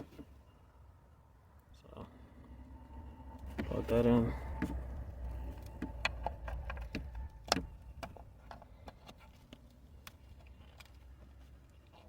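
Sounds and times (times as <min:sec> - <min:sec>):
steady low rumble: 0:01.1 - 0:11.0.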